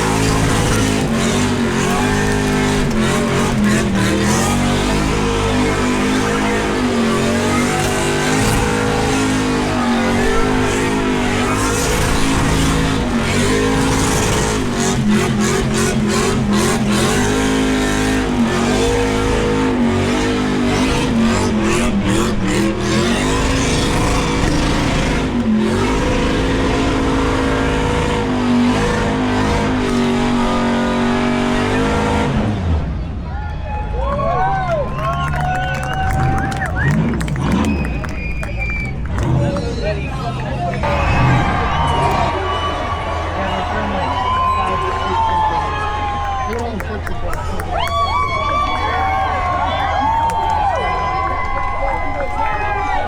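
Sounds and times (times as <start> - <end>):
car engine revving: 0.0 - 33.3, 34.8 - 53.0
tires spinning: 0.0 - 53.0.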